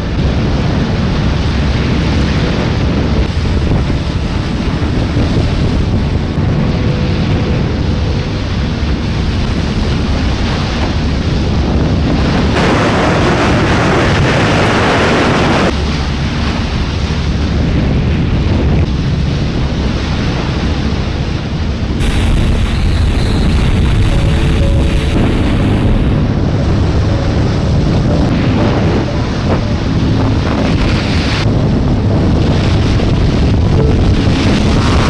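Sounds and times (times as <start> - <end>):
boat engines rumbling: 0.0 - 35.0
wind buffeting microphone: 0.0 - 35.0.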